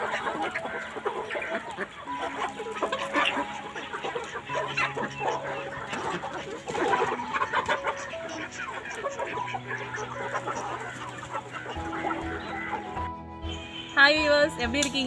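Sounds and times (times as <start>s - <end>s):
chickens clucking: 0.0s - 13.6s.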